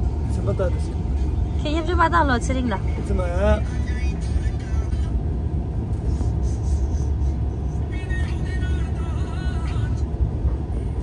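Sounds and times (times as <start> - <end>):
train carriage rumbling: 0.0 - 11.0.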